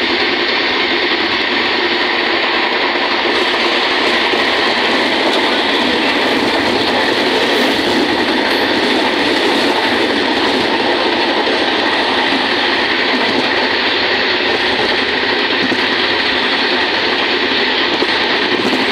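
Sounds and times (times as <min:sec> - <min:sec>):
train wheels on rails: 0:00.0 - 0:18.9.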